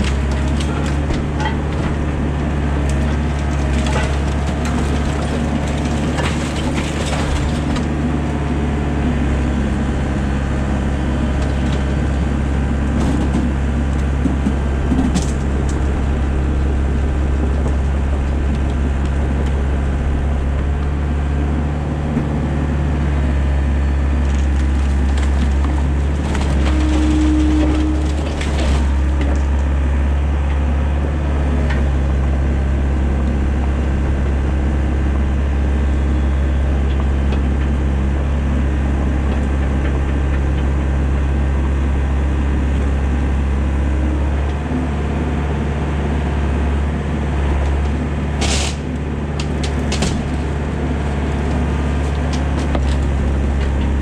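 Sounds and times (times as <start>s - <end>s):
debris clunking and cracking: 0.0s - 44.8s, 47.2s - 54.0s
excavator diesel engine running: 0.0s - 54.0s.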